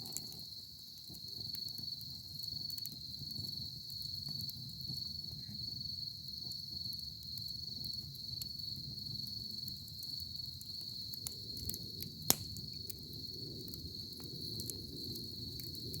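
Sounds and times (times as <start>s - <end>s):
campfire crackling and popping: 0.0s - 16.0s
low rush of flames: 0.0s - 16.0s.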